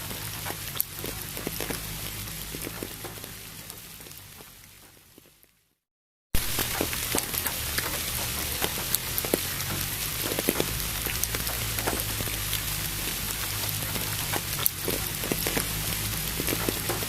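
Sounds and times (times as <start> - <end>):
low steady hum: 0.0 - 5.3, 6.4 - 17.0
steady rain hiss: 0.0 - 5.6, 6.4 - 17.0.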